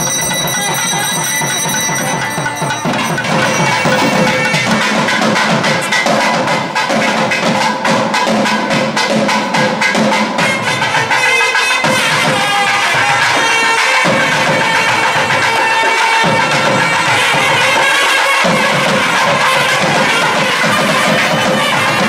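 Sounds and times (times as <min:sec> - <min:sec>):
rapid drumming: 0:00.0 - 0:22.0.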